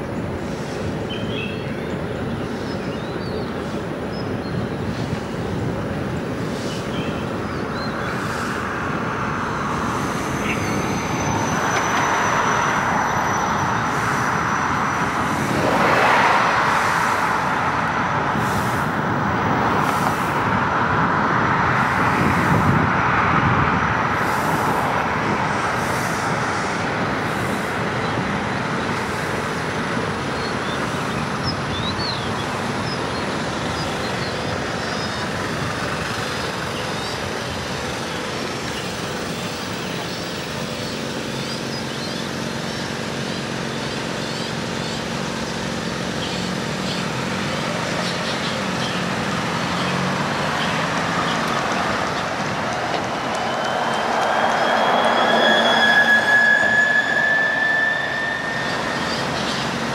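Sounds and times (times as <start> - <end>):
road traffic noise: 0.0 - 59.9
tyre and road noise: 0.0 - 59.9.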